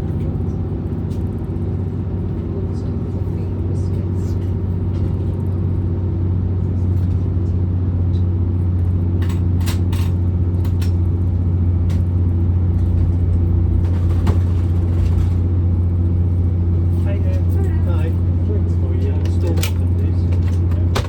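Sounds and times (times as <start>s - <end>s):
train engine drone inside carriage: 0.0s - 21.0s.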